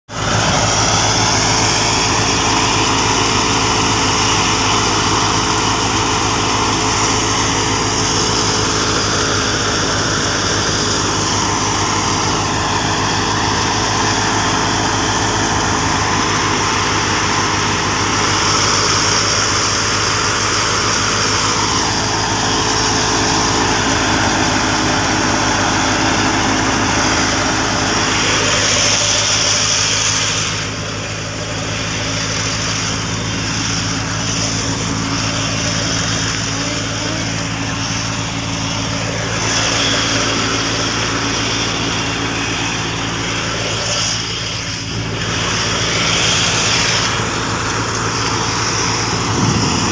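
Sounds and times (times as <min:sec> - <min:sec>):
tractor engine running under load: 0:00.0 - 0:49.9
thresher machinery running: 0:00.1 - 0:49.9.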